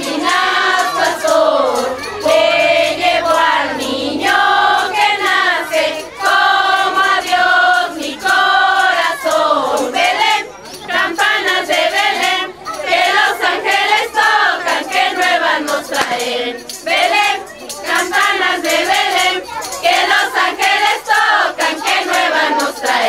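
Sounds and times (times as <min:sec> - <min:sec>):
women's choir singing: 0:00.0 - 0:23.0.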